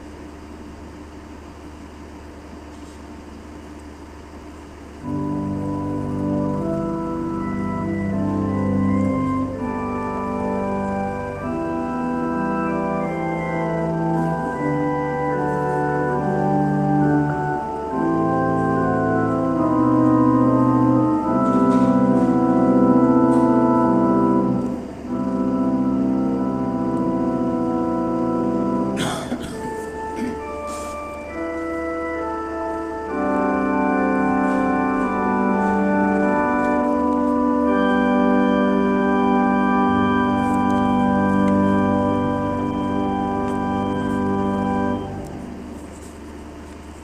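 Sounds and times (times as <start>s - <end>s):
organ playing held chords: 0.0s - 47.0s.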